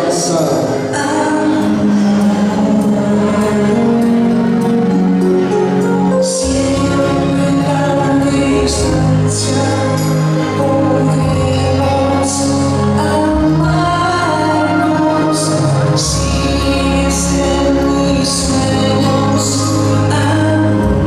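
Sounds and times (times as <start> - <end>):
bass line: 0.0 - 21.0
person singing: 0.0 - 21.0.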